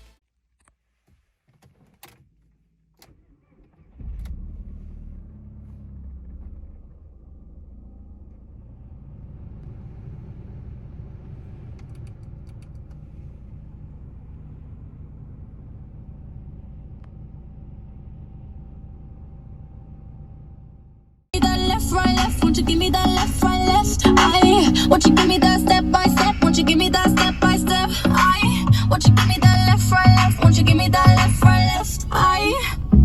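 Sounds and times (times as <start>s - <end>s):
car engine starting and idling: 2.0s - 33.0s.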